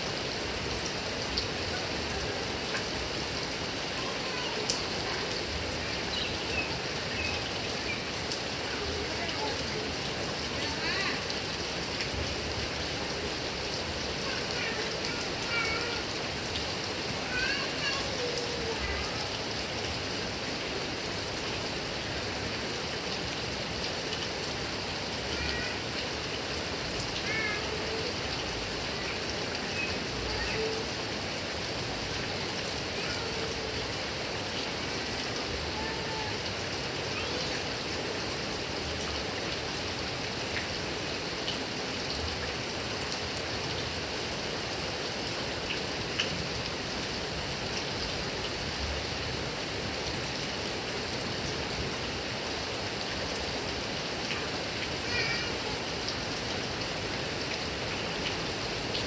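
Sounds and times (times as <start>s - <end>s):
heavy rain on grass and trees: 0.0s - 59.0s.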